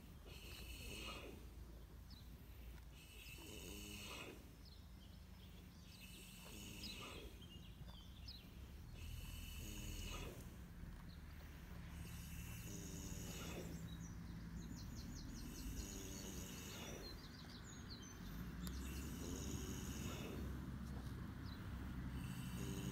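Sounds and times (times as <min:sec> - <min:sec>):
horse snoring: 0:00.0 - 0:01.8, 0:02.9 - 0:04.7, 0:05.8 - 0:08.1, 0:08.7 - 0:22.9.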